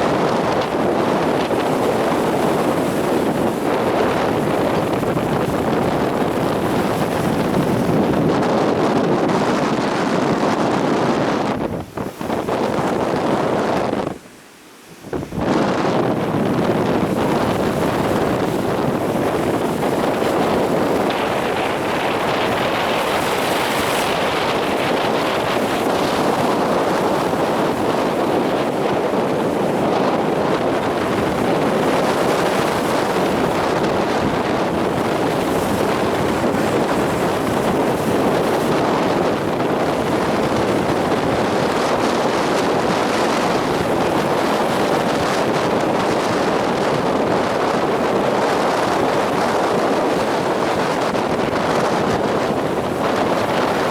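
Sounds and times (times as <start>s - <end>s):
surf breaking on beach: 0.0s - 53.9s
wind buffeting microphone: 0.0s - 53.9s.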